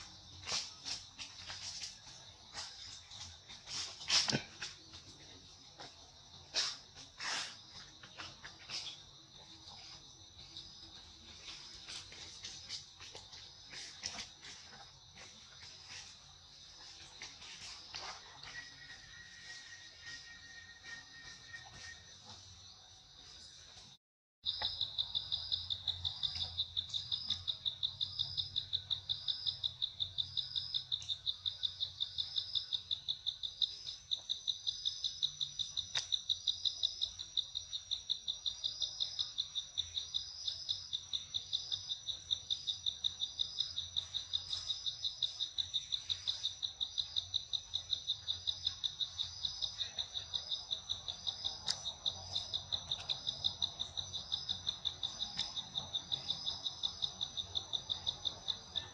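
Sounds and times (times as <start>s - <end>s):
insect chorus pulsing trill: 0.0s - 23.6s, 24.4s - 58.9s.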